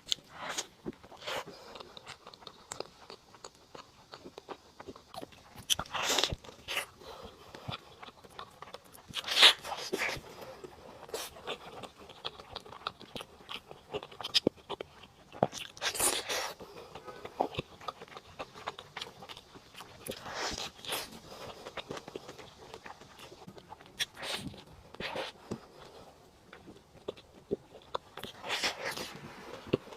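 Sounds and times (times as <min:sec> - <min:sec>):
wet chewing: 0:00.0 - 0:29.9.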